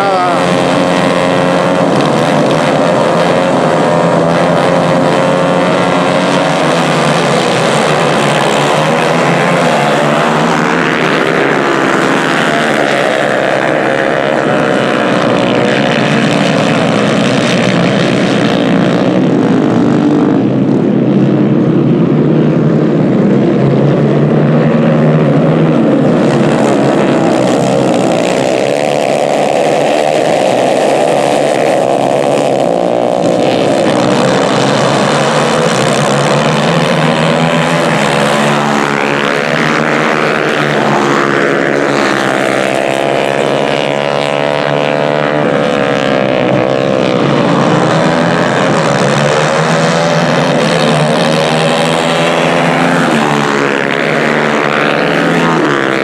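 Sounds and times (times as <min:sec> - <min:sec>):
racing kart engines: 0:00.0 - 0:56.0.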